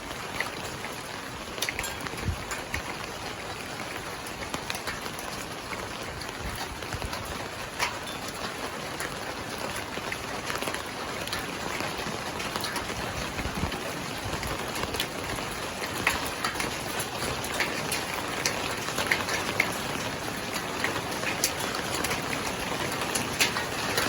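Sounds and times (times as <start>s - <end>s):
raindrops ticking on surfaces: 0.0s - 24.0s
steady rain: 0.0s - 24.0s.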